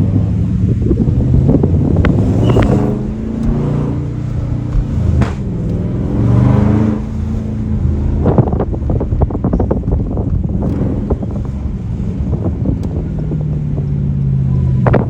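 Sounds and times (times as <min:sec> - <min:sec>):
car engine revving: 0:00.0 - 0:15.0
rapid exhaust crackles: 0:00.0 - 0:15.0.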